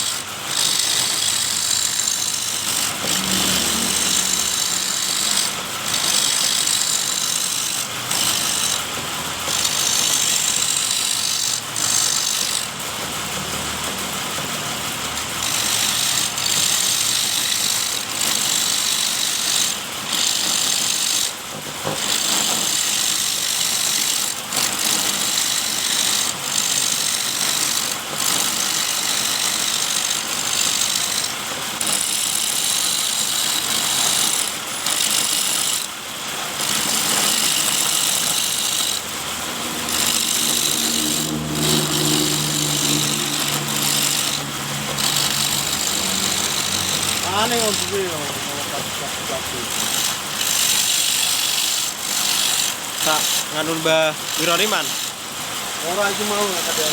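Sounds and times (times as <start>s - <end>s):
wood lathe running: 0.0s - 56.9s.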